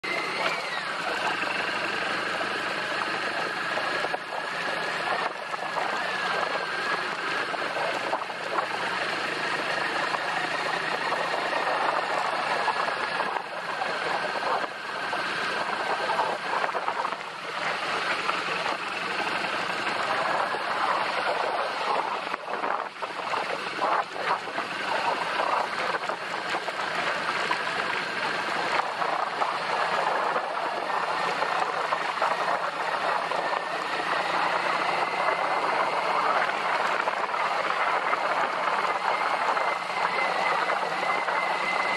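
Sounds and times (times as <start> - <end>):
faint steady whine: 0.0 - 41.9
motorcycle engine and road noise: 0.0 - 41.9.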